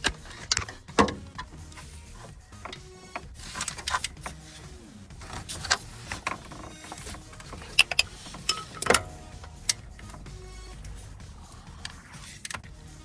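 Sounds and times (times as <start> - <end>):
wrench clicking and clanking: 0.0 - 12.7.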